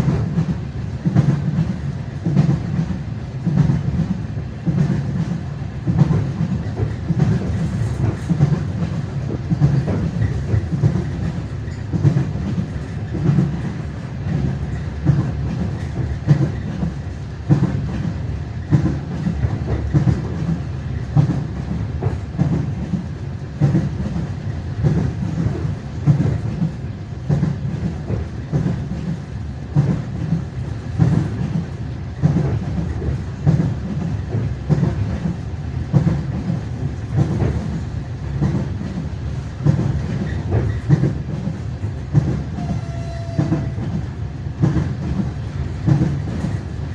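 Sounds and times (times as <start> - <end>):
moving train rumble: 0.0 - 46.9
train wheels clattering on rails: 0.0 - 46.9.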